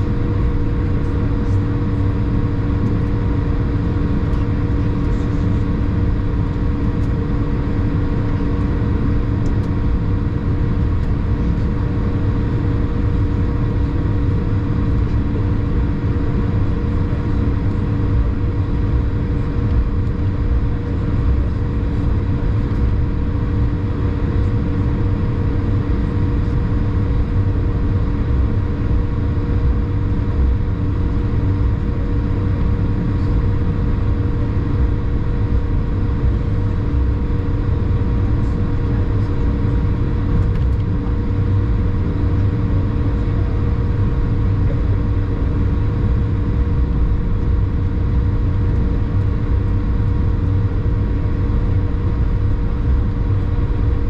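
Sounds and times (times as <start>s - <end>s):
airplane cabin rumble: 0.0s - 54.0s
constant hum tones: 0.0s - 54.0s.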